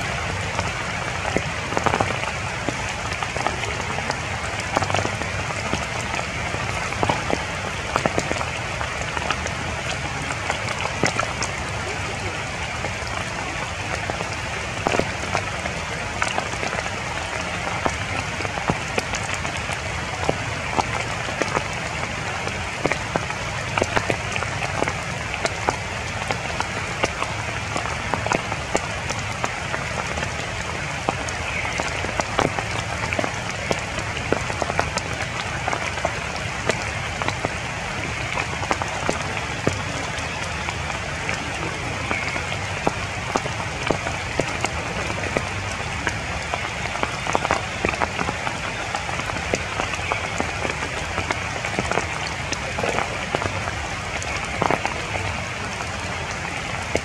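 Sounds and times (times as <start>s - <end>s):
rain hiss: 0.0s - 57.0s
raindrops ticking on leaves: 0.0s - 57.0s.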